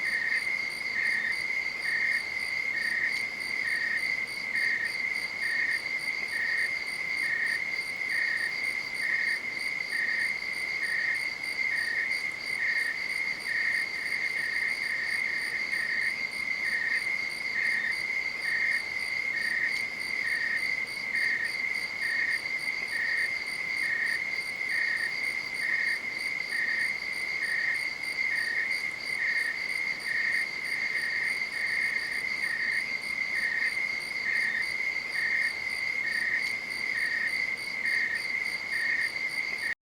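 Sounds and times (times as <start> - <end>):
cricket chirping: 0.0 - 39.8.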